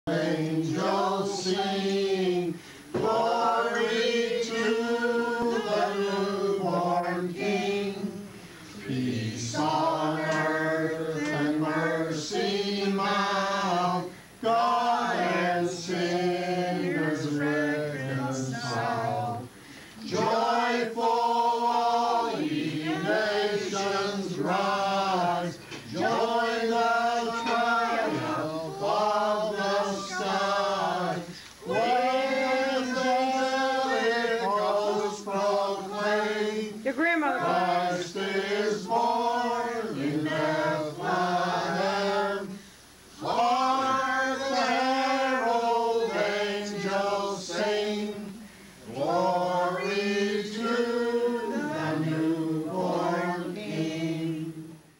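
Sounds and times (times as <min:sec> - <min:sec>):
group singing a carol: 0:00.0 - 0:54.9.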